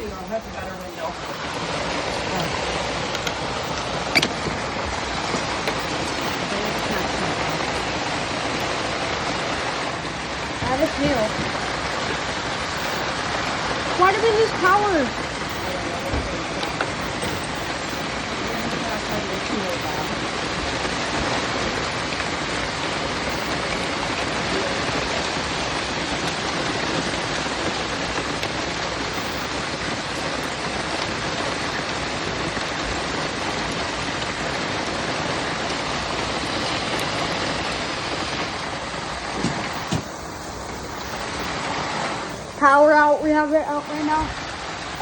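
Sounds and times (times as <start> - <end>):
heavy rain and hail: 0.0 - 45.0.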